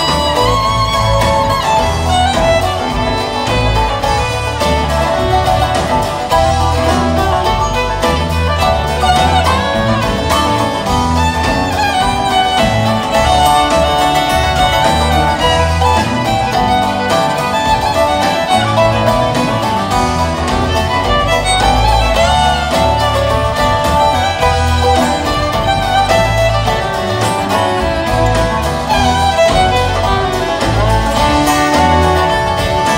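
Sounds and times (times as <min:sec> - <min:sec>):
bluegrass string band playing: 0:00.0 - 0:32.9
fiddle: 0:00.0 - 0:32.9.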